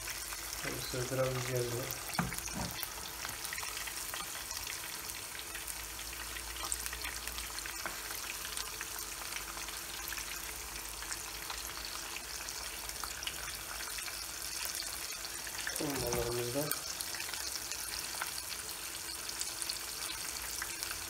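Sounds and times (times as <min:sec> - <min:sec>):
fish frying in hot oil: 0:00.0 - 0:21.0.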